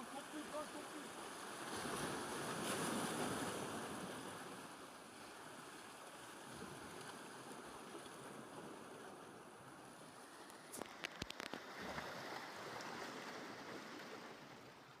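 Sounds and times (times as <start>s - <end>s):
sea water lapping: 0.0s - 15.0s.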